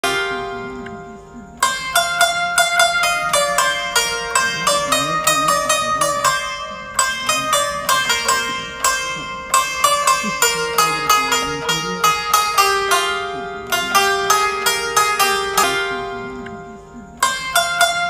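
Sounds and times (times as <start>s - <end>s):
plucked string instrument music: 0.0s - 18.0s.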